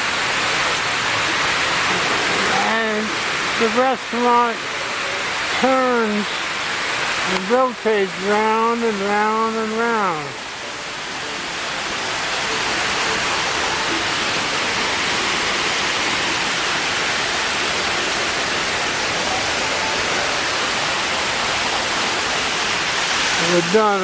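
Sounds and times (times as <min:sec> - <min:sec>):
falling water rushing: 0:00.0 - 0:24.0.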